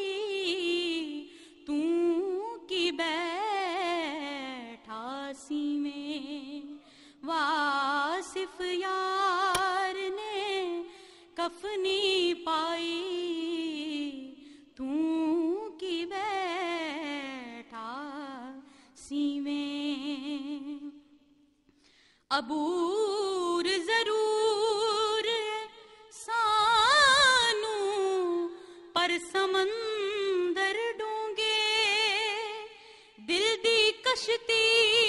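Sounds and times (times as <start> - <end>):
woman singing into a microphone: 0.0 - 21.3, 22.3 - 35.0.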